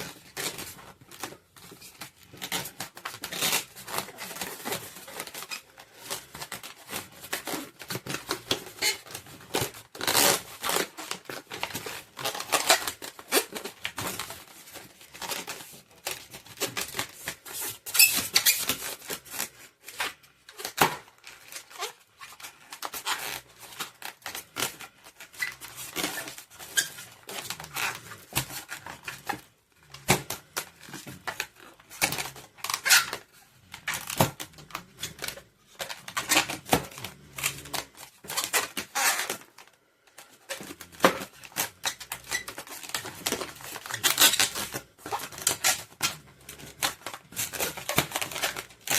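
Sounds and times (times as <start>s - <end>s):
balloons squeaking and rubbing: 0.0s - 48.9s.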